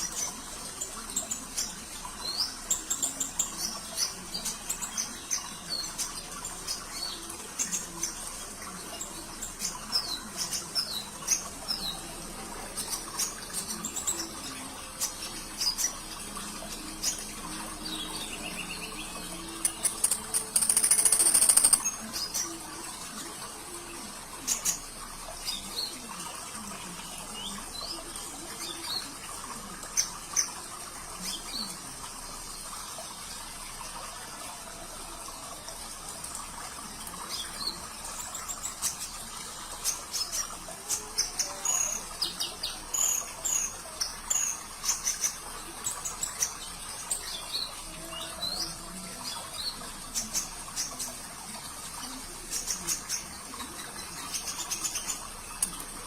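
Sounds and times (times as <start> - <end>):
small bird chirping and twittering: 0.0 - 34.0, 36.6 - 56.0
trickling water: 0.0 - 56.0.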